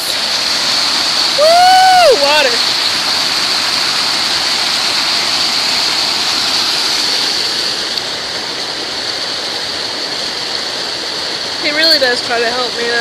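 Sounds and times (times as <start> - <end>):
water rushing over waterfall: 0.0 - 13.0.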